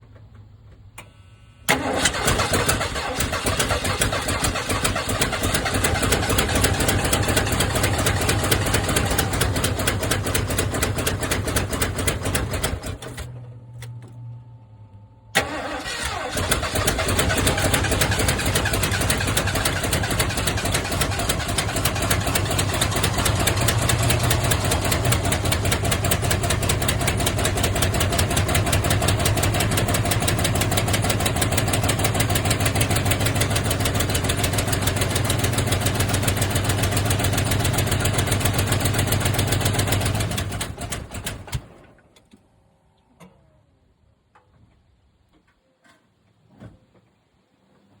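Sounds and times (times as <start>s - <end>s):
engine running and stalling: 1.7s - 13.4s, 15.4s - 42.0s.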